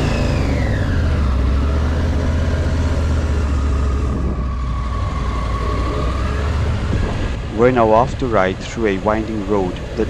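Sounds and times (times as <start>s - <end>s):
motorcycle engine low drone: 0.0s - 10.0s.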